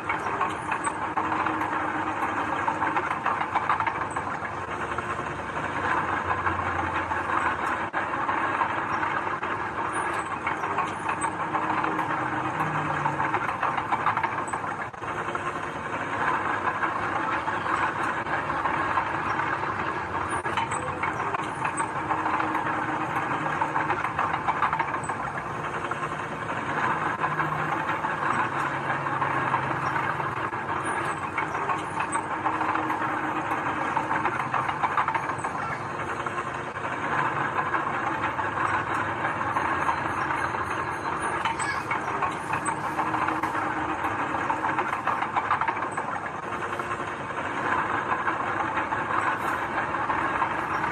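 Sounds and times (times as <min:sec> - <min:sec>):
diesel earthmoving machinery running: 0:00.0 - 0:50.9
mechanical rattle: 0:00.0 - 0:50.9.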